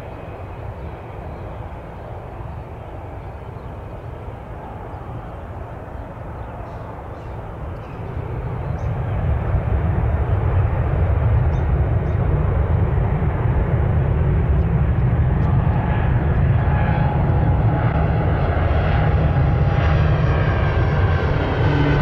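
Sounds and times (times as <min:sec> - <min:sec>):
aircraft engine rumble: 0:00.0 - 0:22.0.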